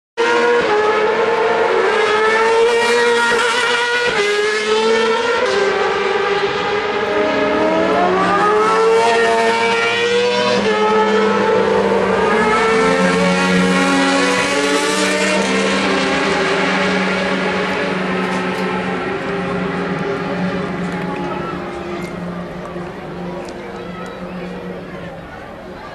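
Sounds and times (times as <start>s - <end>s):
motorbike racing engines passing: 0.2s - 25.9s.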